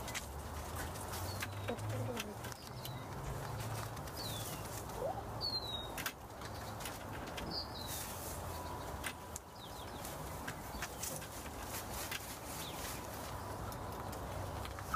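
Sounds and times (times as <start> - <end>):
chickens scratching in bedding: 0.0 - 5.1, 6.4 - 14.9.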